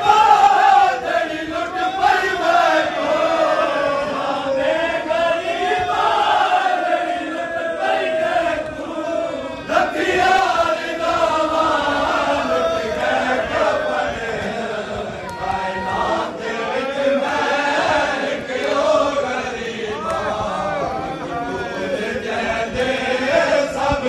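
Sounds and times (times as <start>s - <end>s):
men chanting a lament: 0.0s - 24.0s.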